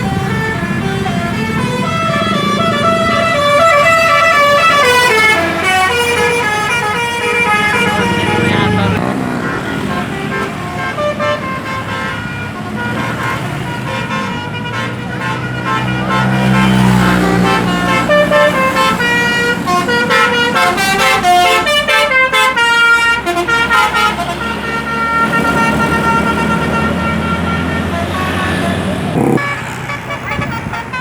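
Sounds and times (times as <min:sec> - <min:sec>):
bus engine rumble: 0:00.0 - 0:31.0
musical air horn tune: 0:00.0 - 0:31.0.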